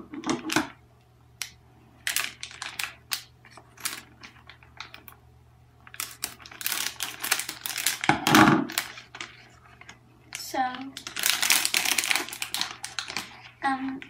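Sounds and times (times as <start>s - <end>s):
foil packet crinkling: 2.0s - 5.2s, 5.8s - 14.0s.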